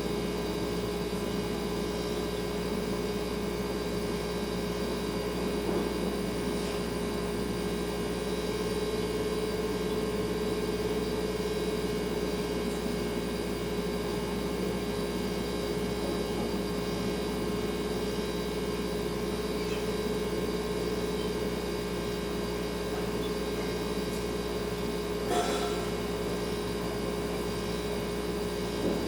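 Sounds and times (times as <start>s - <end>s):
refrigerator humming: 0.0s - 29.0s.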